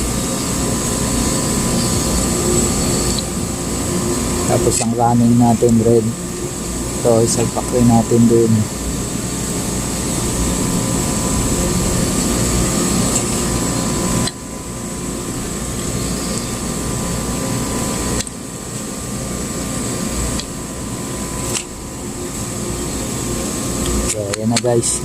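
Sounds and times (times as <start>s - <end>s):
machinery hum: 0.0s - 25.0s.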